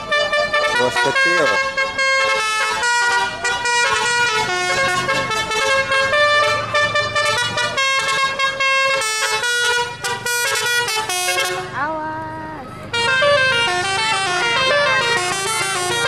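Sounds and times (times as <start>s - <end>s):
musical bus horn melody: 0.0s - 12.2s, 12.8s - 16.0s.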